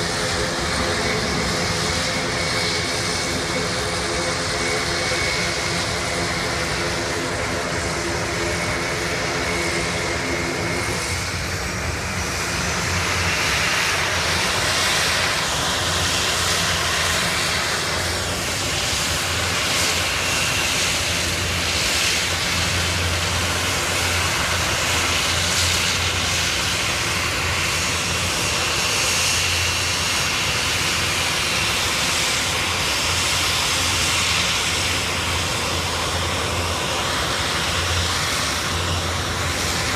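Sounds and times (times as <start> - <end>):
aircraft engines flying by: 0.0 - 39.9.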